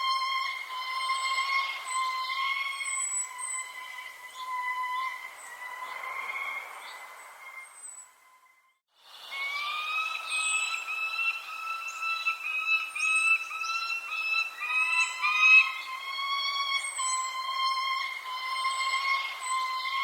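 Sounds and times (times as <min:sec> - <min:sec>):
birds chirping: 0:00.0 - 0:20.0
wavering whistle-like tone: 0:00.0 - 0:20.0.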